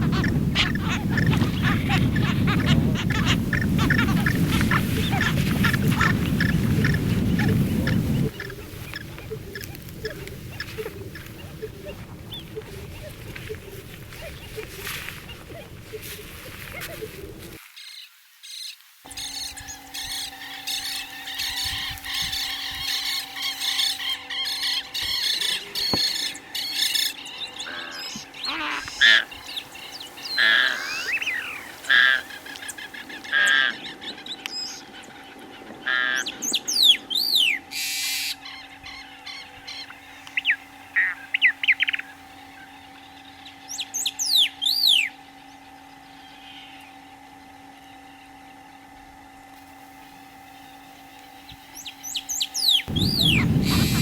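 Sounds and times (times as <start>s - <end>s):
birds chirping: 0.0s - 54.0s
faint steady hum: 0.0s - 54.0s.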